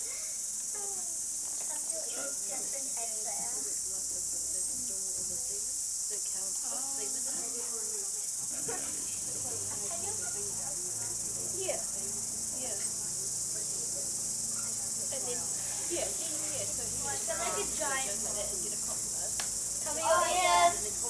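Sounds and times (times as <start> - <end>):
faint voices chattering: 0.0 - 21.0
steady high-pitched hiss: 0.0 - 21.0.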